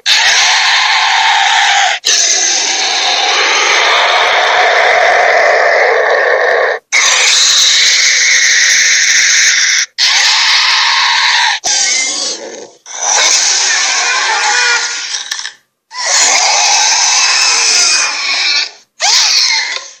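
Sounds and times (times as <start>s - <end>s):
dragon roaring and growling: 0.0s - 20.0s.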